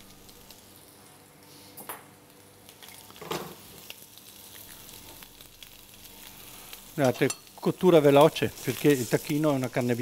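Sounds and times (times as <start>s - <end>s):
meat sizzling in a frying pan: 0.0s - 1.0s, 2.2s - 10.0s.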